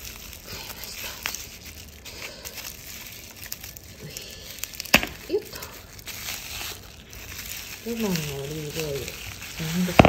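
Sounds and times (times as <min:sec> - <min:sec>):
bubble wrap crinkling: 0:00.0 - 0:10.0
sharp crackles: 0:00.0 - 0:10.0.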